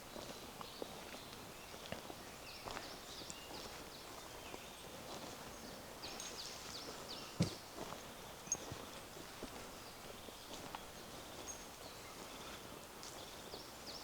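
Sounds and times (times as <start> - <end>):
footsteps on forest path: 0.0 - 14.0
songbirds chirping: 0.0 - 14.0.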